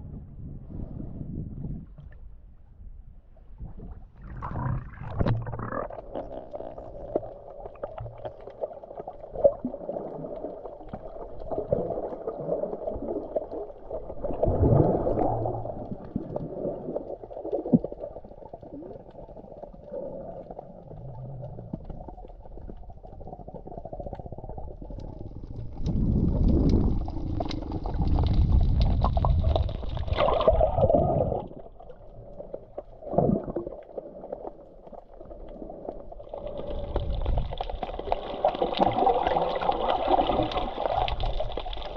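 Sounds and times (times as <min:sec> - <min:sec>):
muffled water sloshing and gurgling: 0:00.0 - 0:41.9.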